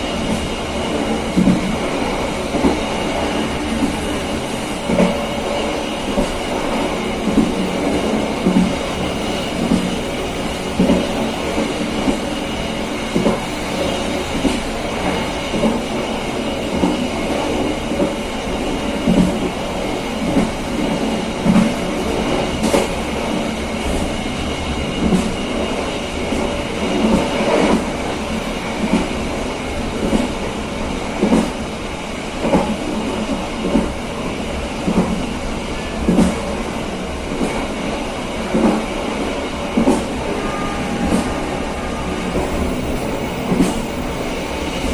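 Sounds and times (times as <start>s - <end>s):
train rolling rumble: 0.0s - 44.9s.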